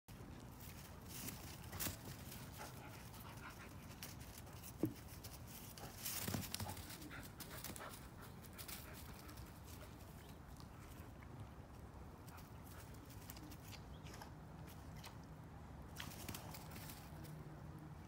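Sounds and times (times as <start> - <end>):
rustling on grass: 0.1 - 14.8
animals sniffing and snuffling: 0.1 - 17.4.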